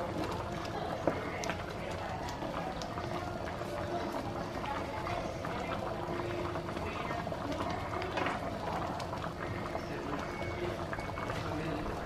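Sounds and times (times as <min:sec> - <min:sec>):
food boiling with bubbling pops: 0:00.0 - 0:12.0.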